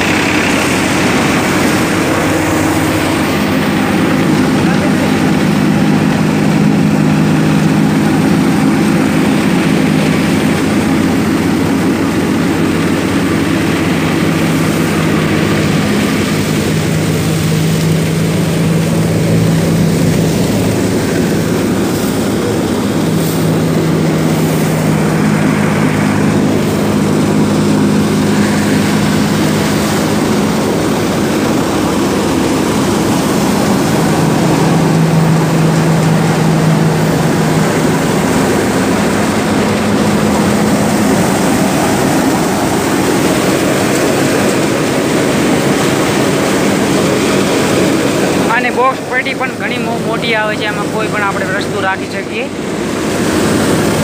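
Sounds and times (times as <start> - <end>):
thresher machine drone: 0.0 - 54.0.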